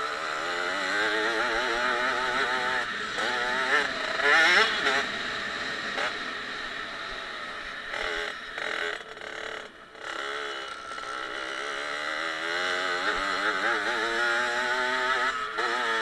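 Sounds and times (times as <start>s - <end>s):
two-stroke dirt bike engine revving: 0.0s - 16.0s.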